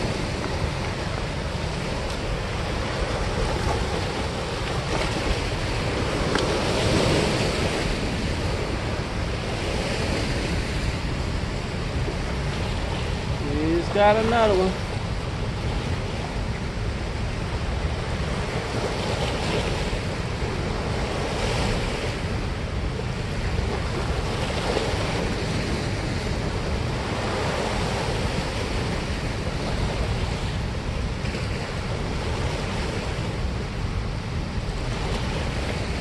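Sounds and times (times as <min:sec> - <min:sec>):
white water rushing: 0:00.0 - 0:36.0
wind buffeting microphone: 0:00.0 - 0:36.0.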